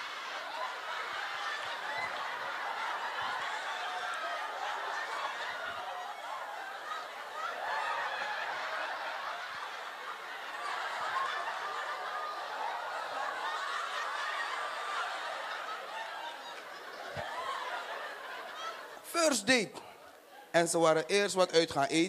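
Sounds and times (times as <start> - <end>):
audience laughing: 0.0 - 22.0.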